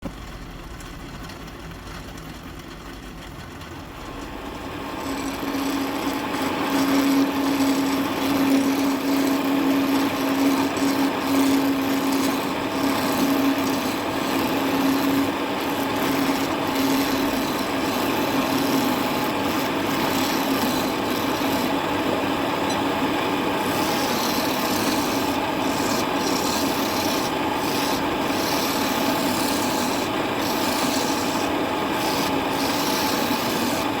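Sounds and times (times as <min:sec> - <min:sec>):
turning tool cutting spinning wood: 0:04.1 - 0:34.0
wood lathe hum: 0:04.2 - 0:34.0.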